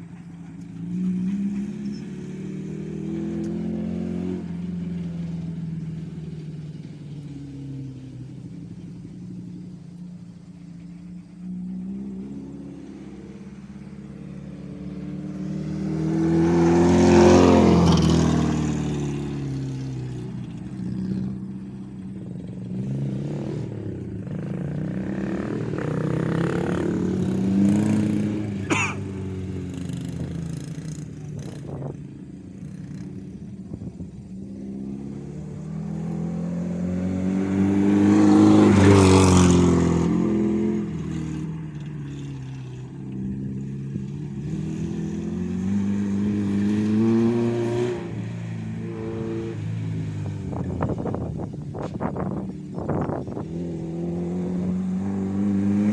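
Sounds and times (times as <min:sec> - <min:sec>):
car engine passing by: 0:00.0 - 0:55.9.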